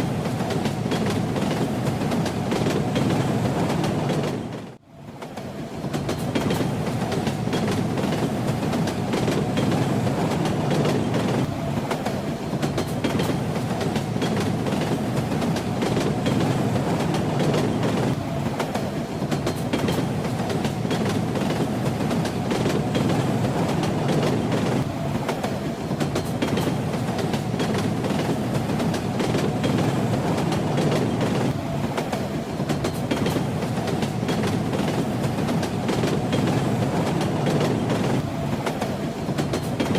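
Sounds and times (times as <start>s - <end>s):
train rumbling: 0.0s - 39.9s
wheels clacking over rail joints: 0.0s - 39.9s.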